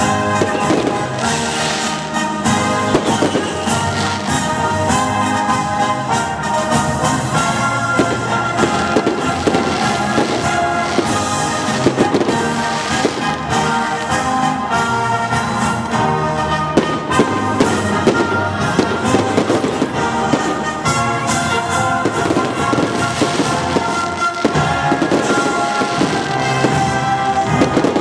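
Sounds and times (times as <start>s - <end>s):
fireworks bursting and crackling: 0.0s - 28.0s
loud music: 0.0s - 28.0s.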